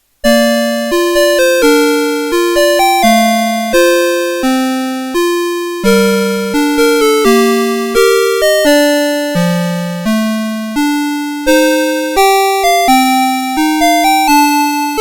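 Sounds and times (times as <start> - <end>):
electronic alarm clock melody: 0.2 - 15.0.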